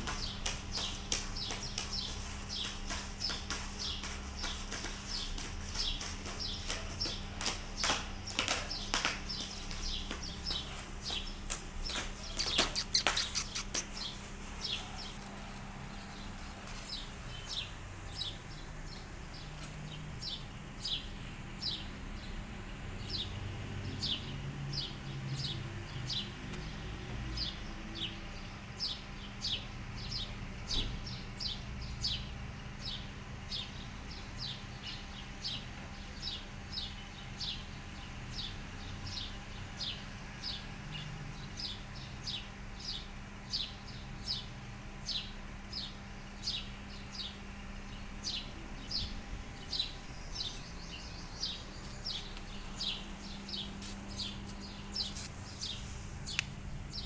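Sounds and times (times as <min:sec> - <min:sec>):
small bird chirping: 0:00.0 - 0:15.3, 0:23.0 - 0:57.0.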